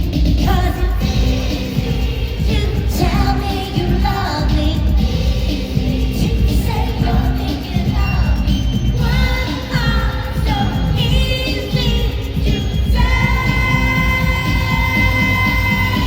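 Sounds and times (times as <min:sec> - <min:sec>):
heavy bass beat: 0:00.0 - 0:16.0
pop dance music: 0:00.0 - 0:16.0.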